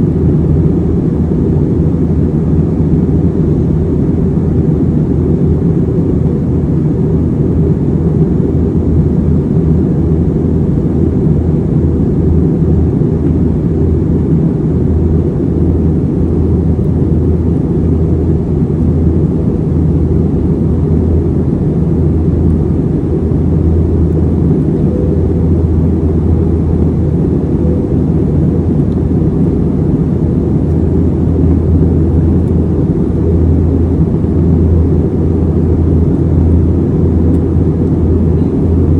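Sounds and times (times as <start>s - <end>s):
jet engine cabin rumble: 0.0s - 38.9s.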